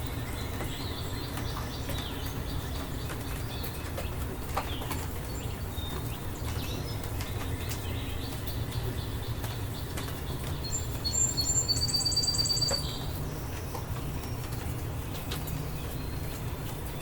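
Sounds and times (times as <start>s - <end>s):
birds chirping: 0.0s - 17.0s
rain falling: 0.0s - 17.0s
raindrops ticking: 0.0s - 17.0s.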